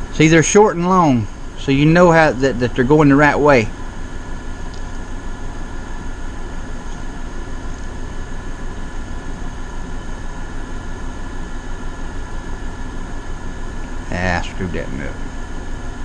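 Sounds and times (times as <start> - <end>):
air conditioners humming: 0.0 - 16.0.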